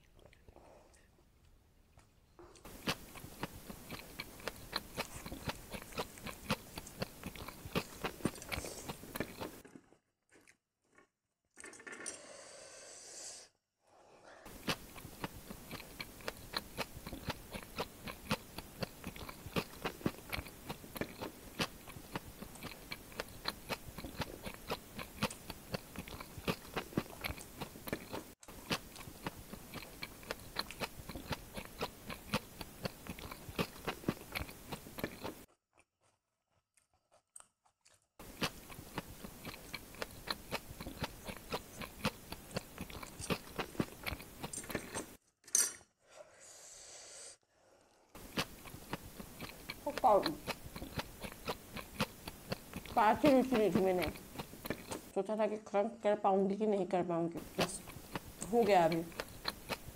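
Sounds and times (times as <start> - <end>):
close chewing with crunches: 1.9 - 12.0, 14.4 - 45.2, 48.1 - 55.2, 57.4 - 59.9.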